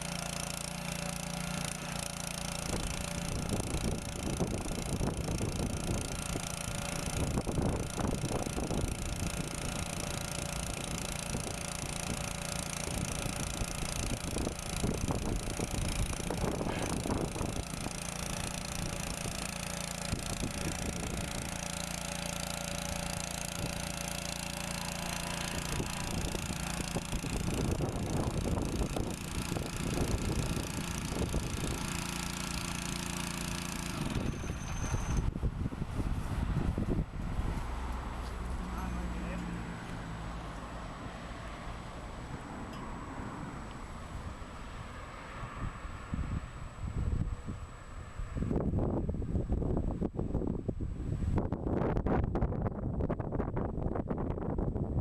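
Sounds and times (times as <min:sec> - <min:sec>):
small gasoline engine running: 0:00.0 - 0:50.4.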